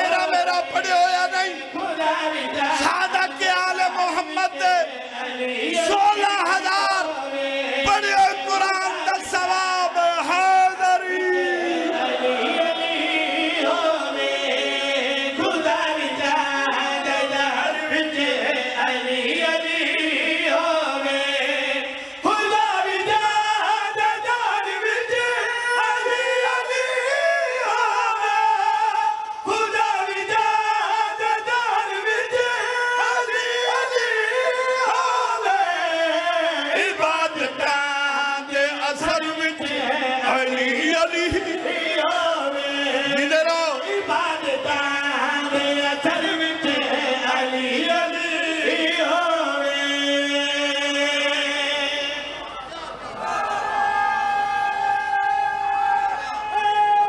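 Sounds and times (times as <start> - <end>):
men chanting together: 0.0 - 53.0.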